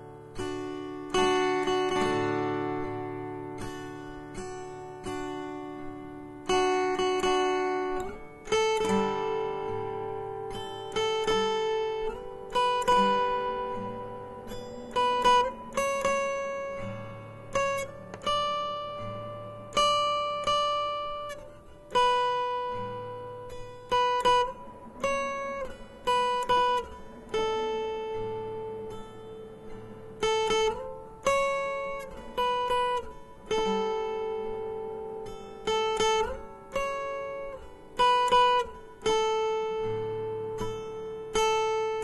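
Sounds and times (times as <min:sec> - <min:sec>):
acoustic guitar slow melody: 0:00.0 - 0:42.0.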